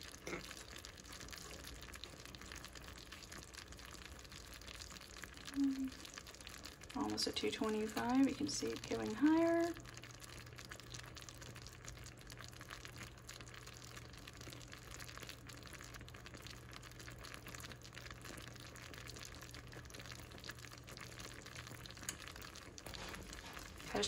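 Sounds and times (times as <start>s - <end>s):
syrup bubbling in saucepan: 0.0s - 24.0s.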